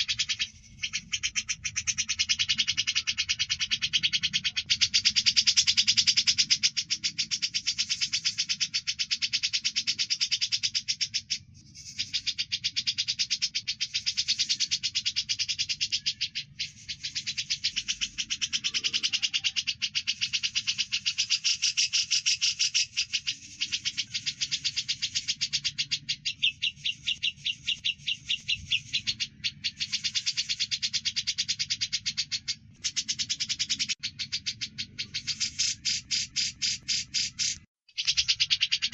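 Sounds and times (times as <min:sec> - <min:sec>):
birds chirping rapidly: 0:00.0 - 0:38.9.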